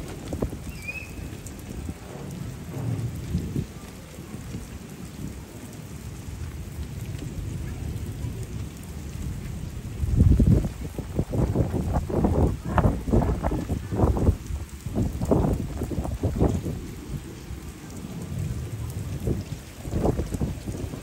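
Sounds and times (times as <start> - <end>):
low rumbles: 0.0 - 21.0
rain on pavement: 0.0 - 21.0.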